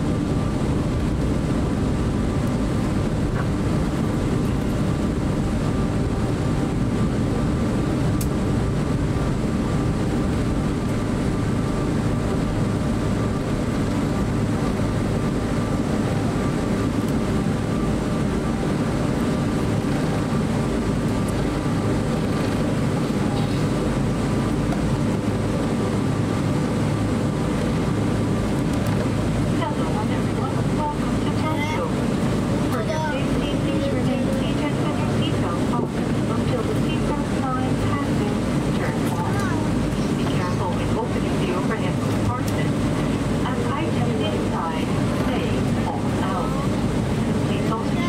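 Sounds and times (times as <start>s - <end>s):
aircraft cabin low rumble: 0.0s - 48.0s.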